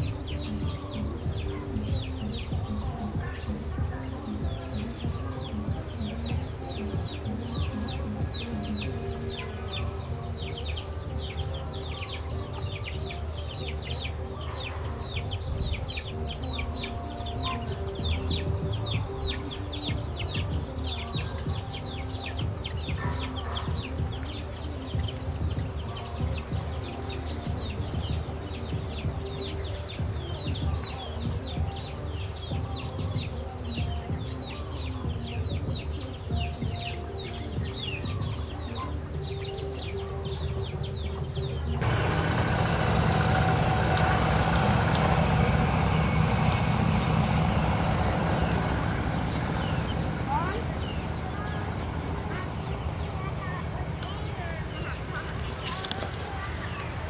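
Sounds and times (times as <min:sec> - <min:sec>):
nestlings begging chirps: 0:00.0 - 0:57.0.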